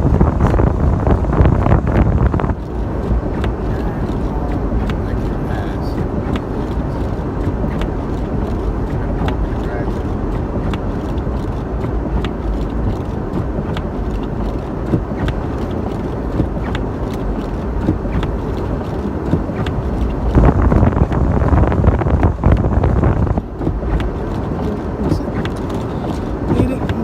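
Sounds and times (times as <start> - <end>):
car engine while driving: 0.0 - 27.0
road rumble: 0.0 - 27.0.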